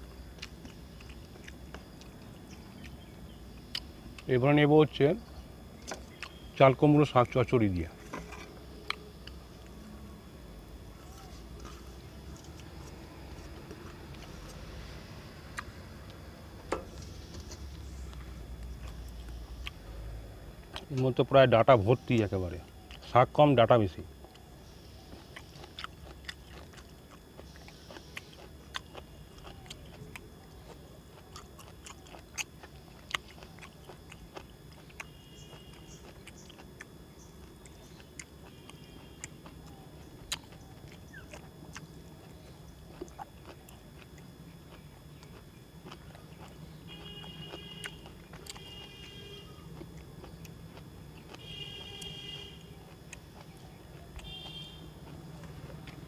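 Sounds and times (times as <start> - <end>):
soft chewing: 0.0 - 4.4, 5.3 - 21.2, 22.0 - 23.1, 24.1 - 56.0.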